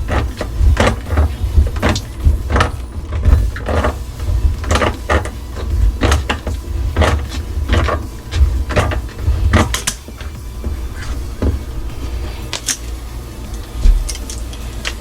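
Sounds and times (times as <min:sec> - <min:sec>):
tool clicking and scraping on metal: 0:00.0 - 0:12.9.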